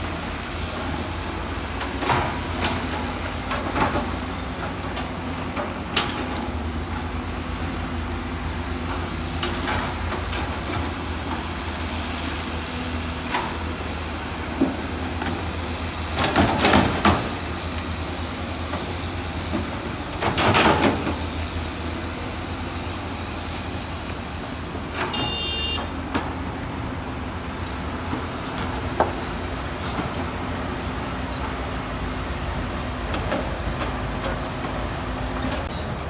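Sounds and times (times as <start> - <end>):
diesel construction machine droning: 0.0 - 36.0.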